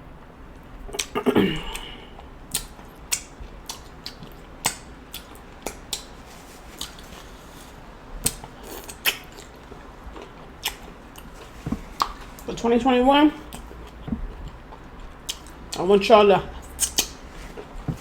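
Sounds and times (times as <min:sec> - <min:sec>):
wet chewing and lip smacks: 0:00.6 - 0:12.6, 0:13.4 - 0:15.9, 0:16.5 - 0:18.0.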